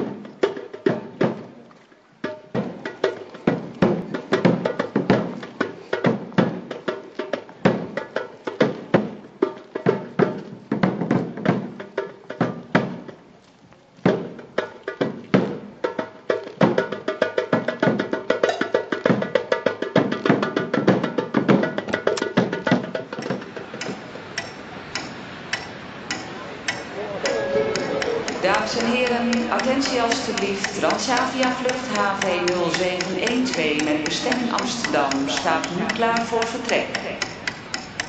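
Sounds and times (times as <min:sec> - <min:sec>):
percussion music with drum strikes: 0:00.0 - 0:13.2, 0:14.0 - 0:38.0.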